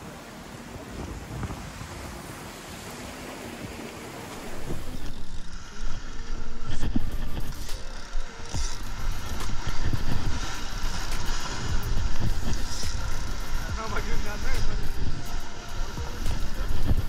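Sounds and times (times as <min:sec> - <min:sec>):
surf washing against rocks: 0:00.0 - 0:17.0
wind buffeting microphone: 0:00.5 - 0:17.0.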